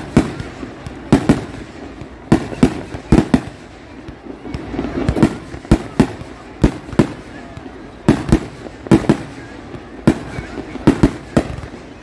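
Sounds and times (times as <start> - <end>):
fireworks bursting with loud bangs: 0.0 - 12.0.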